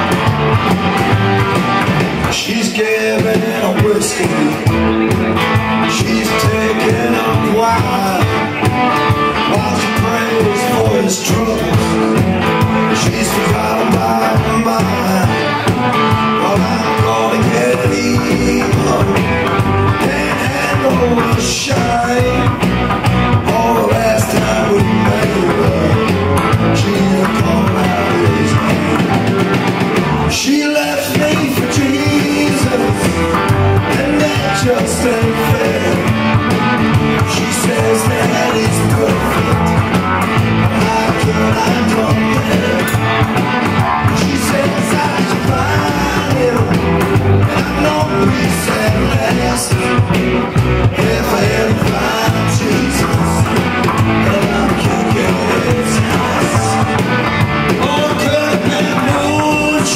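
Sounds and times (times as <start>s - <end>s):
live band playing: 0.0s - 59.9s
man singing: 2.2s - 59.9s.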